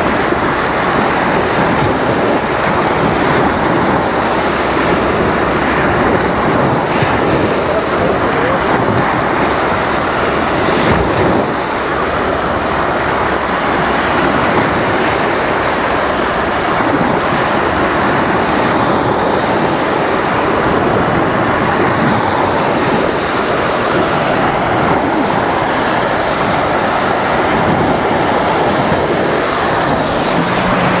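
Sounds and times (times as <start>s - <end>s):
small waves washing over sand: 0.0s - 31.0s.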